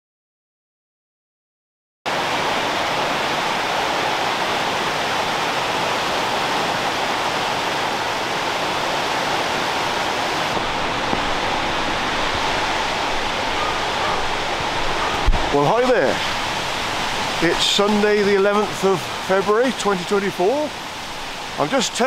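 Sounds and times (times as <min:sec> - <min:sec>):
rushing water: 0:02.1 - 0:22.0.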